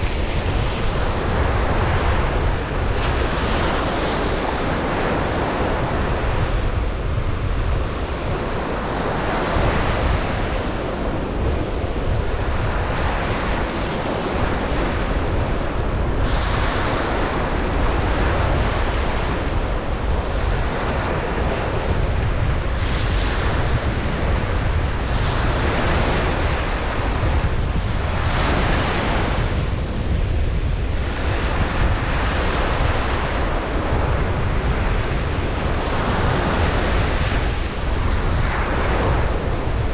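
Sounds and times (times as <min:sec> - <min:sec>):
surf low rumble: 0:00.0 - 0:39.9
waves breaking on beach: 0:00.0 - 0:39.9.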